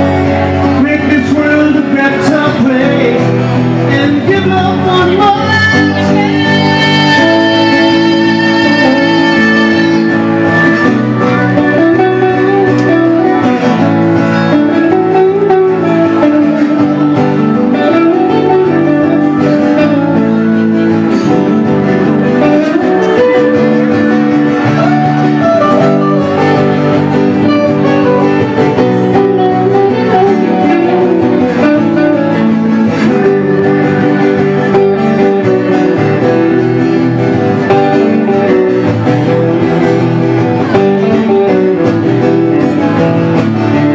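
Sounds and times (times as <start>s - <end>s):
acoustic guitar strumming: 0.0s - 43.9s
electric guitar lead line: 0.0s - 43.9s.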